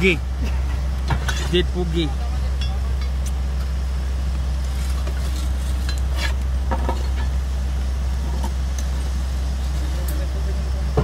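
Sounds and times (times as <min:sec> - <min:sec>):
heavy machinery engine drone: 0:00.0 - 0:11.0.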